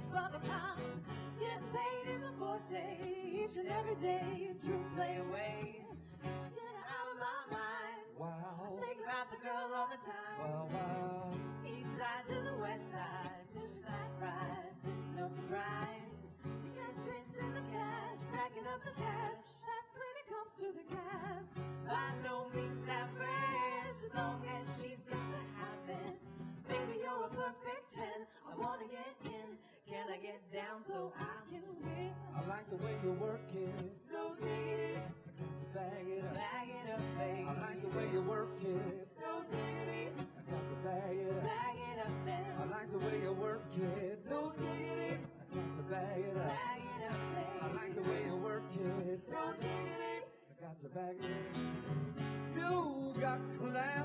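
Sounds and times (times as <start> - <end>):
women singing: 0.0 - 10.5, 11.5 - 32.6, 33.2 - 50.6
strummed acoustic guitar: 0.0 - 19.4, 20.8 - 29.8, 31.2 - 50.3, 51.1 - 54.0.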